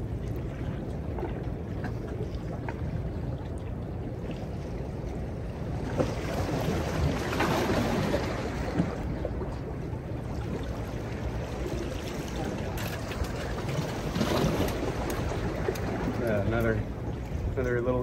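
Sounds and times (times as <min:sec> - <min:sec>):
water lapping among boulders: 0:00.0 - 0:18.0
wind rumble on microphone: 0:00.0 - 0:18.0.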